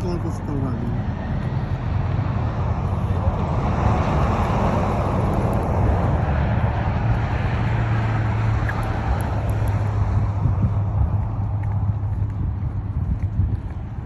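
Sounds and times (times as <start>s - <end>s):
road noise: 0.0s - 14.0s
vehicle engine humming: 0.0s - 14.0s.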